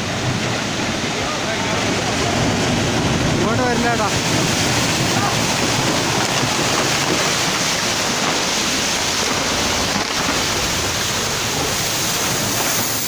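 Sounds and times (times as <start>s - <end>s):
rushing debris flow: 0.0s - 13.0s.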